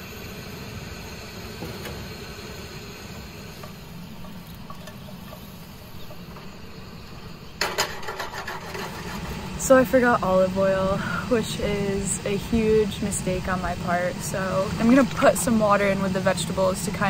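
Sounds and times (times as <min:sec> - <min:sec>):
loud crackling sizzle: 0:00.0 - 0:17.0
vegetables sizzling in a pan: 0:02.1 - 0:17.0.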